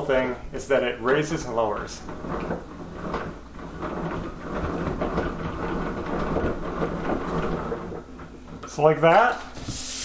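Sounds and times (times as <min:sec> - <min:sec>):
crank gear mechanism rattling: 0:00.0 - 0:09.7.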